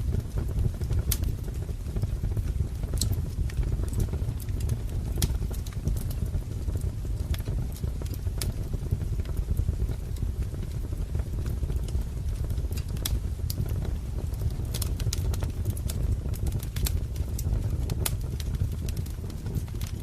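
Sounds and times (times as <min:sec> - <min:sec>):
burning logs popping: 0:00.0 - 0:20.0
low rumble of burning: 0:00.0 - 0:20.0
wood fire crackling: 0:00.0 - 0:20.0.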